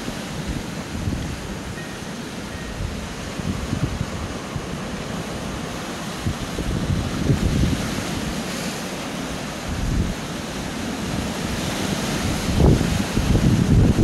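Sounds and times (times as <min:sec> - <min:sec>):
waves washing over rocks: 0:00.0 - 0:14.0
wind buffeting microphone: 0:00.0 - 0:14.0.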